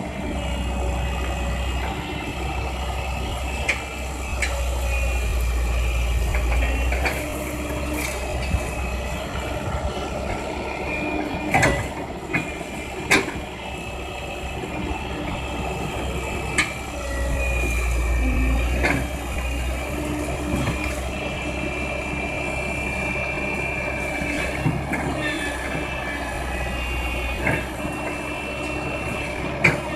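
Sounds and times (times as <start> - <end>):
excavator diesel engine rumble: 0.0 - 29.9
hydraulic whine: 0.0 - 29.9.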